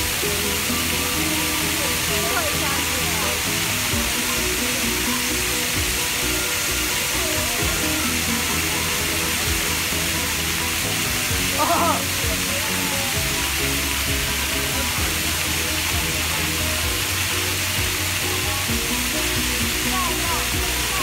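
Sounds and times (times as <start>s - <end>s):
fountain water splashing: 0.0s - 21.0s
music playing: 0.0s - 21.0s.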